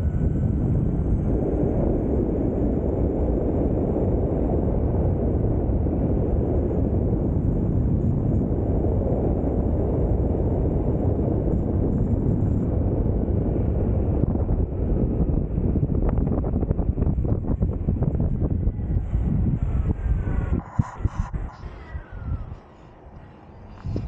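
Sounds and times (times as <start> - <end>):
board wheels rumbling on asphalt: 0.0 - 20.6
wind buffeting microphone: 0.0 - 24.0.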